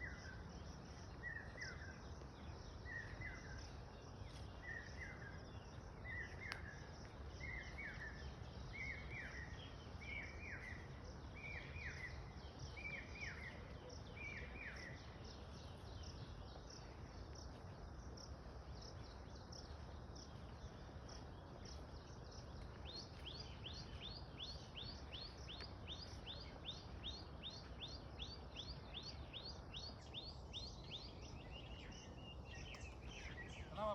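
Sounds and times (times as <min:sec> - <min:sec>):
low background noise: 0:00.0 - 0:33.9.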